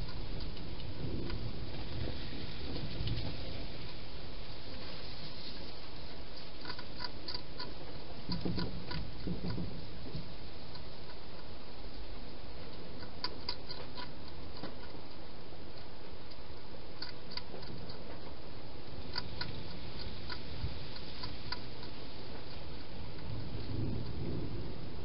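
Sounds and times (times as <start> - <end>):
steady low rumble: 0.0 - 25.0
hedgehog crunching food: 4.7 - 25.0.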